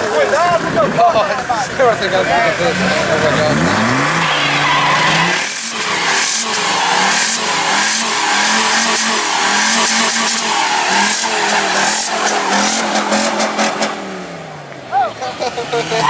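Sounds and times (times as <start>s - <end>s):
car engine at high revs: 0.0s - 14.9s
tyres squealing on asphalt: 0.0s - 16.0s.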